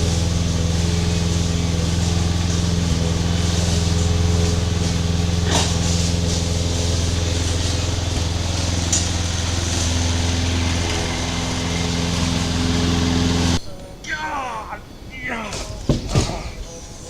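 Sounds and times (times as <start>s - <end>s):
riding mower engine running: 0.0s - 17.0s.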